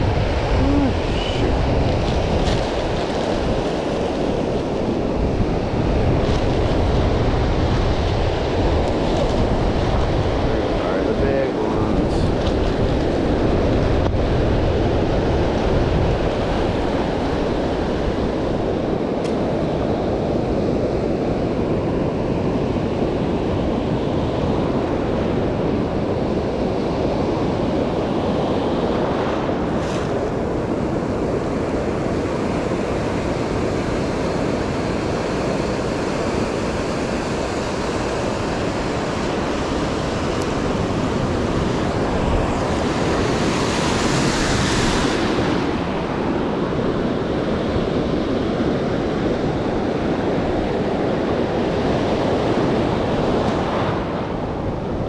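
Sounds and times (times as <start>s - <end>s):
ocean surf washing: 0.0s - 55.0s
wind buffeting microphone: 0.0s - 55.0s.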